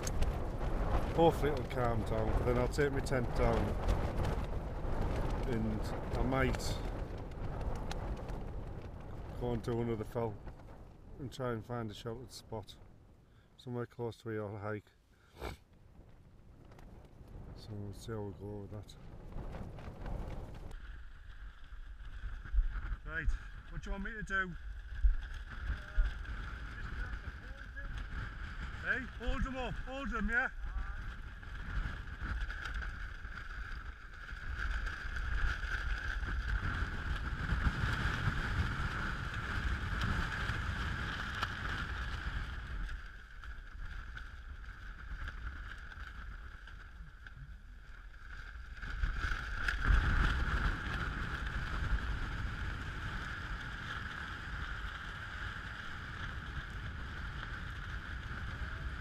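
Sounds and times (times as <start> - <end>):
gusty wind on microphone: 0.0 - 13.2, 15.3 - 59.0.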